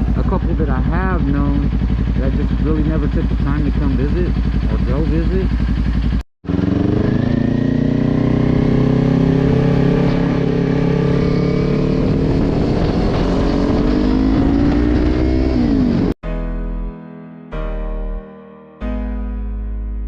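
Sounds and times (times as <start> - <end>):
motorcycle engine accelerating: 0.0 - 16.2.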